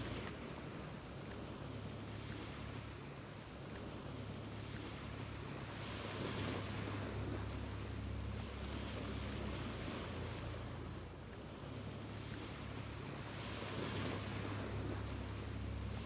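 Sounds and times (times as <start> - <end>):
sea surf: 0.0 - 16.0
wind: 0.0 - 16.0.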